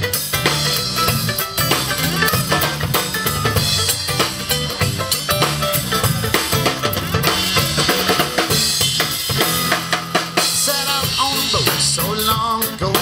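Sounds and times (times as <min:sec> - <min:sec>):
bass line: 0:00.0 - 0:12.3
drum kit beat: 0:00.0 - 0:13.0.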